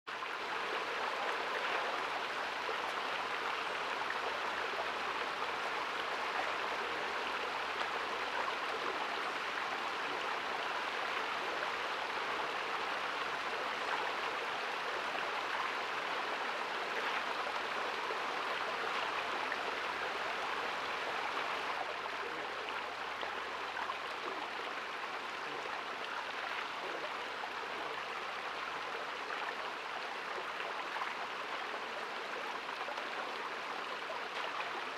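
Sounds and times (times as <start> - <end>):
stream babbling: 0.1 - 34.9.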